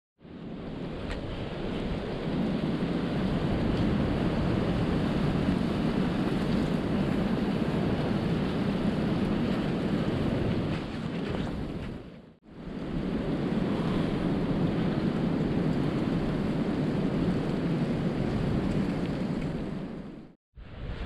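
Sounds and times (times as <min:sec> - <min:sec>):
blizzard wind on microphone: 0:00.2 - 0:21.0.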